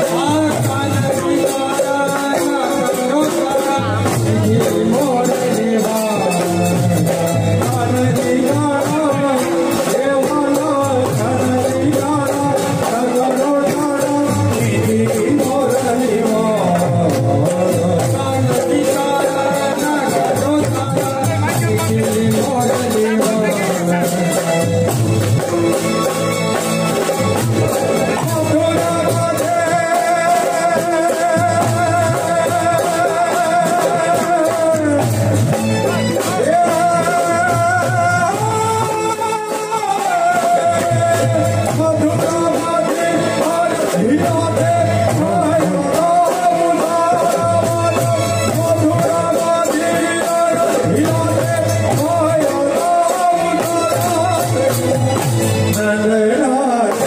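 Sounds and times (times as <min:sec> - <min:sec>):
drums keeping steady beat: 0:00.0 - 0:57.0
keyboard: 0:00.0 - 0:57.0
man singing into microphone: 0:00.0 - 0:57.0.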